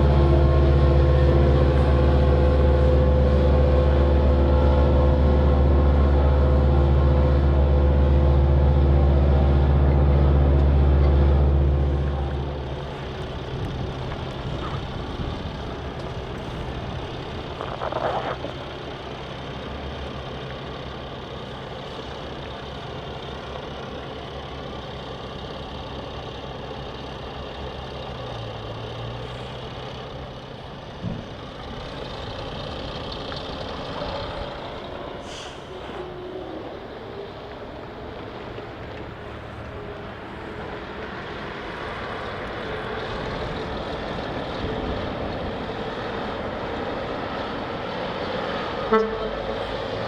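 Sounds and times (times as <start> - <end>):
heavy diesel engine idling: 0.0 - 50.0.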